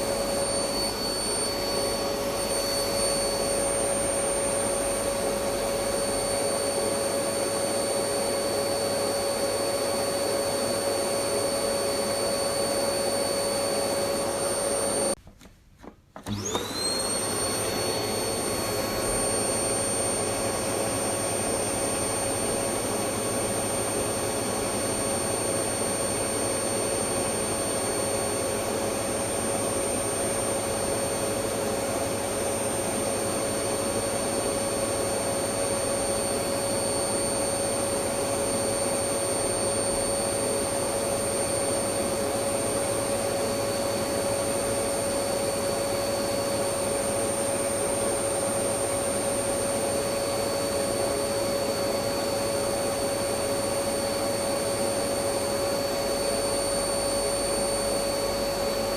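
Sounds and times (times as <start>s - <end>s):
vacuum cleaner running: 0.0s - 15.2s, 15.8s - 58.9s.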